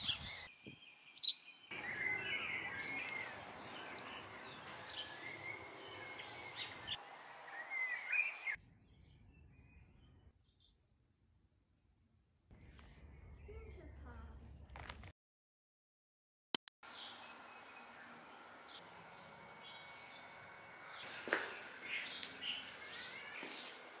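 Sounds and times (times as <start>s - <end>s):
outdoor background noise: 0.0s - 10.3s, 12.5s - 15.1s, 16.8s - 24.0s
birds chirping: 0.0s - 10.7s, 12.5s - 14.7s, 16.9s - 24.0s.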